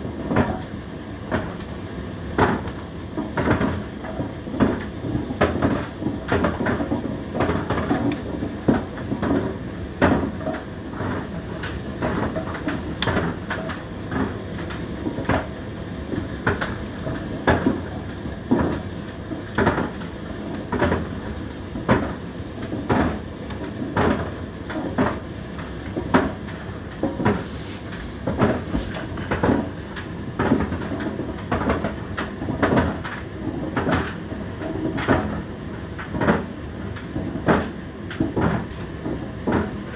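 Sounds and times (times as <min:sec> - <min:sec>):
tumble dryer motor and fan hum: 0:00.0 - 0:39.9.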